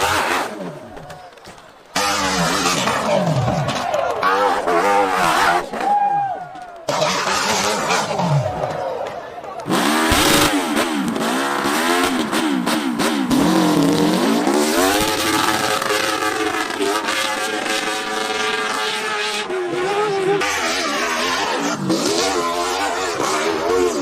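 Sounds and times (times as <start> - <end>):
dirt bike engine revving: 0.0 - 1.0, 1.9 - 5.7, 6.9 - 8.6, 9.6 - 24.0.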